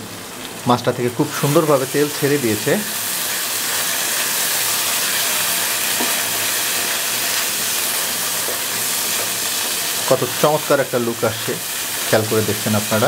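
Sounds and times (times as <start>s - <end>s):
curry sizzling in a pan: 0.0s - 13.0s.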